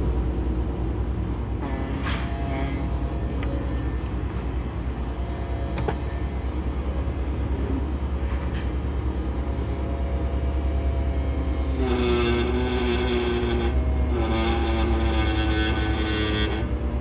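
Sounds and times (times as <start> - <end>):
vacuum machine humming: 1.2 - 17.0.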